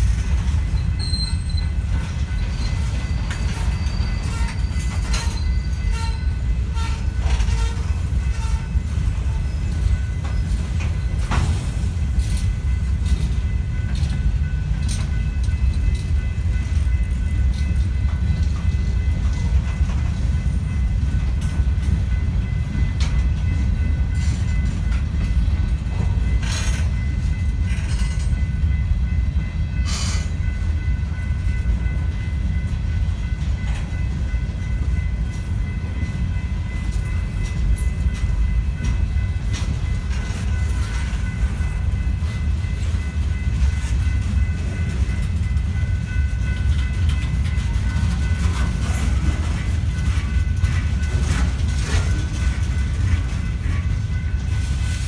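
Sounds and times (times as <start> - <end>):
train cars knocking and clanking: 0.0 - 55.0
train wheels rumbling on rail: 0.0 - 55.0.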